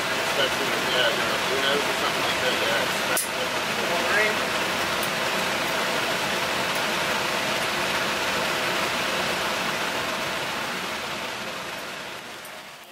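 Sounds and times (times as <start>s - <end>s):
ventilation and machinery rushing: 0.0s - 12.9s.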